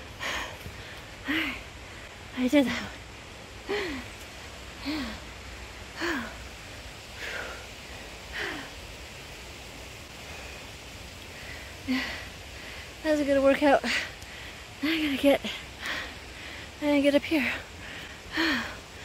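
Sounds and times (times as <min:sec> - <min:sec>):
woman breathing hard: 0:00.0 - 0:09.0, 0:10.1 - 0:13.0, 0:13.8 - 0:16.8, 0:17.5 - 0:19.0.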